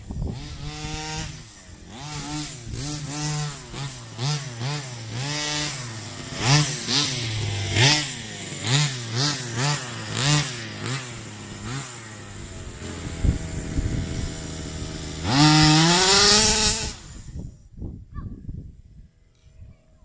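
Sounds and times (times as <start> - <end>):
two-stroke engine revving: 0.0 - 17.5.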